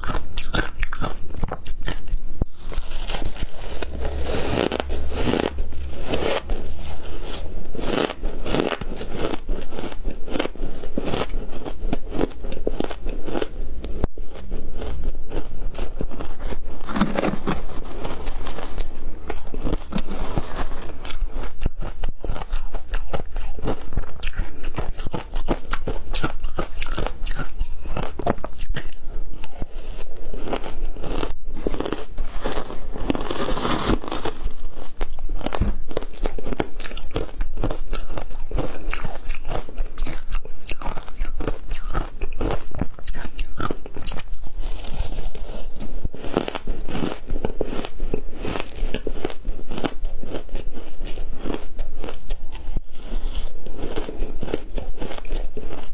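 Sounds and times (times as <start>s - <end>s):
ice crunching being chewed: 0.0s - 55.9s.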